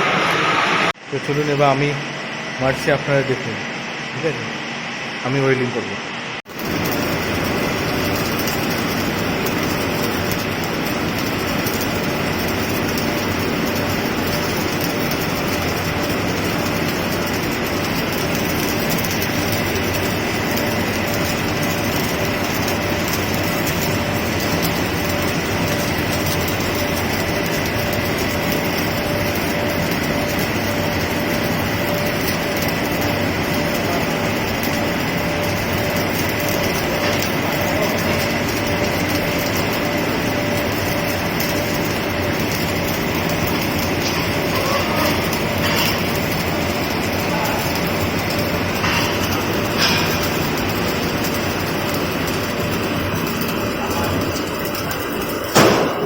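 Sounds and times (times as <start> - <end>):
welding arc crackling and hissing: 6.4 - 56.0.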